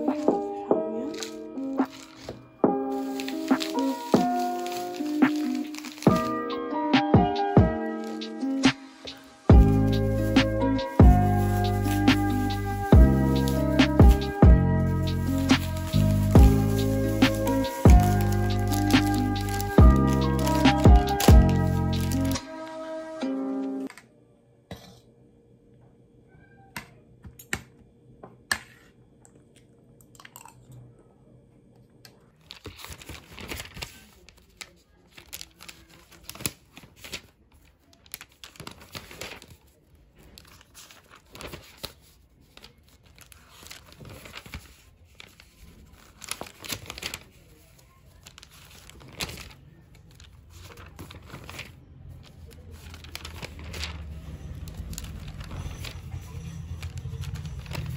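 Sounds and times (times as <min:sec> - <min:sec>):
notebook pages flipping: 0:00.0 - 0:06.6, 0:07.7 - 0:22.9, 0:32.4 - 0:57.9.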